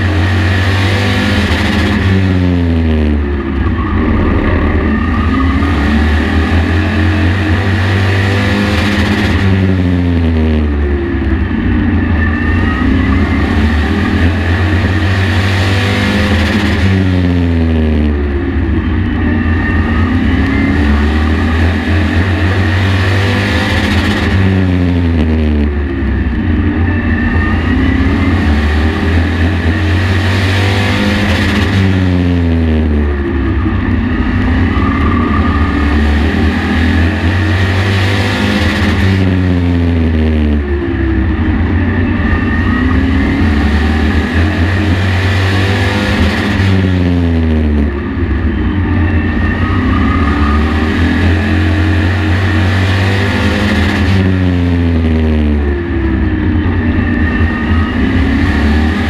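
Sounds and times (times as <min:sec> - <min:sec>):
race truck engine revving: 0:00.0 - 0:59.0.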